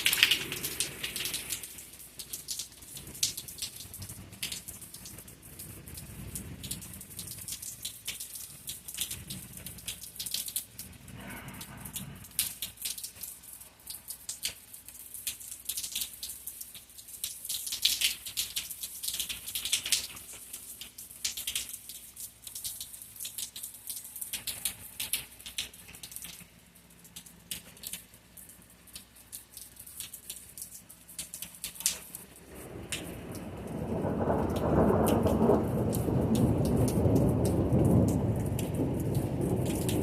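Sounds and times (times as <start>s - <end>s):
raindrops pattering: 0.0s - 40.0s.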